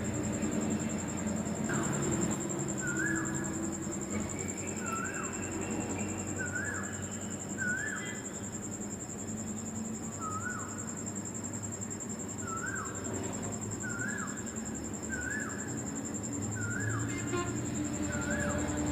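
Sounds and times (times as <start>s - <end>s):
steady high-pitched whine: 0.0s - 18.9s.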